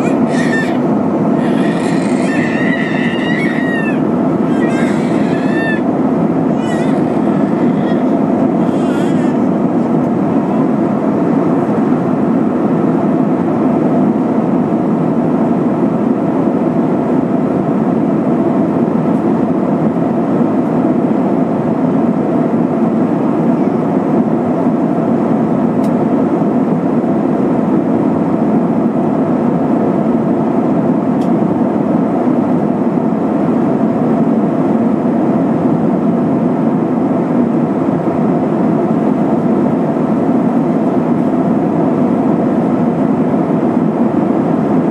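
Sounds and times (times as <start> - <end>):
airflow over fuselage: 0.0 - 44.9
jet engine drone: 0.0 - 44.9.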